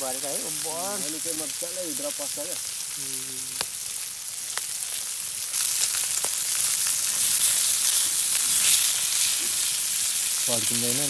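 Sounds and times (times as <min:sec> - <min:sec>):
meat sizzling with pops: 0:00.0 - 0:11.0.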